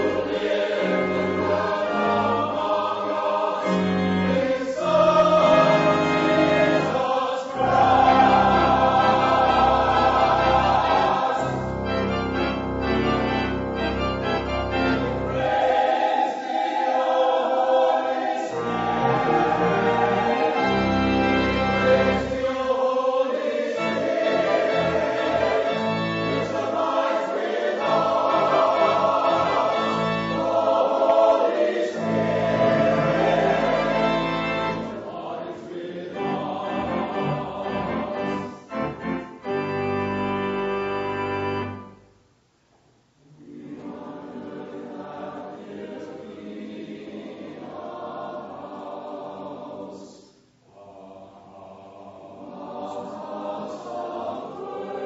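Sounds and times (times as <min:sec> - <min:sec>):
choir singing: 0:00.0 - 0:42.0, 0:43.2 - 0:55.0.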